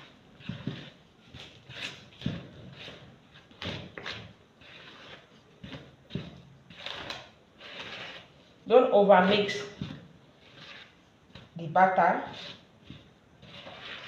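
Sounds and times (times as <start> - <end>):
wooden spoon scraping batter: 0.0 - 14.0.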